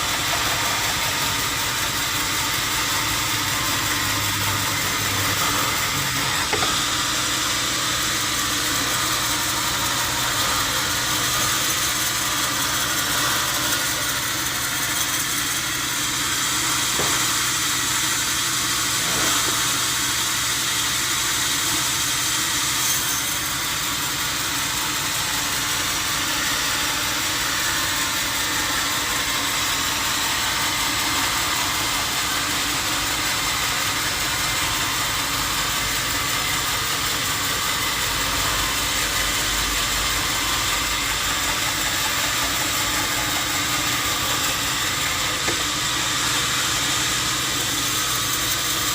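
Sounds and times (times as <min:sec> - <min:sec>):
sawmill machinery hissing: 0:00.0 - 0:48.9.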